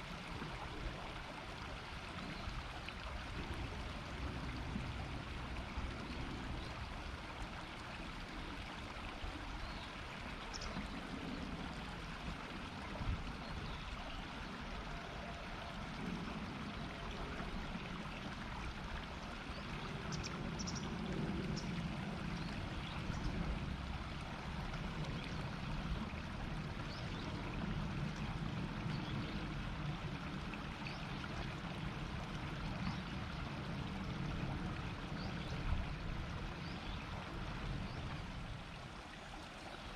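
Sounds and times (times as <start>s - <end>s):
shallow river flowing: 0.0s - 39.9s.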